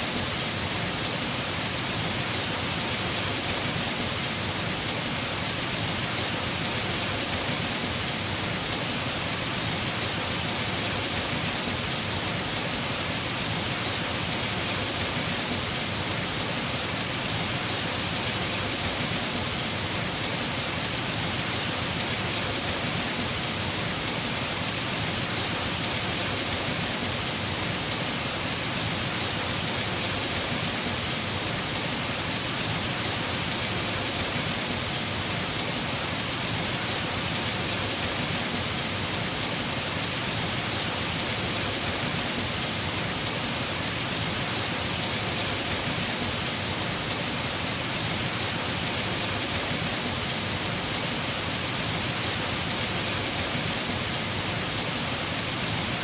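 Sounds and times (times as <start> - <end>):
heavy rain drumming on roof: 0.0 - 56.0.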